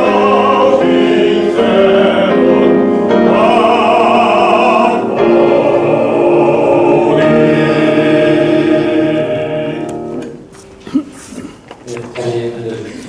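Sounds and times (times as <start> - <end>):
choir singing with accompaniment: 0.0 - 10.5.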